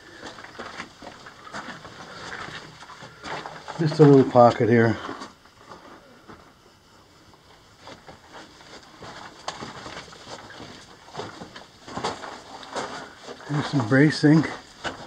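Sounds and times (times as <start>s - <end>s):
footsteps crunching on gravel: 0.0s - 5.3s, 7.6s - 15.0s.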